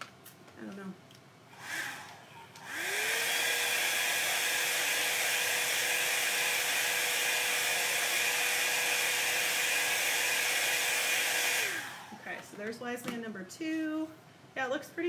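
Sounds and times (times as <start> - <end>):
heat tool fan whine: 0.6 - 12.8.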